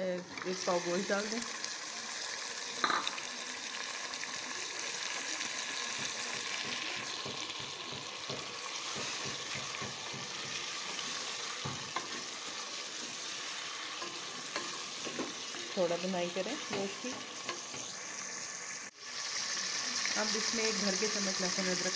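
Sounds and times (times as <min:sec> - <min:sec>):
meat sizzling in hot oil: 0:00.0 - 0:21.9.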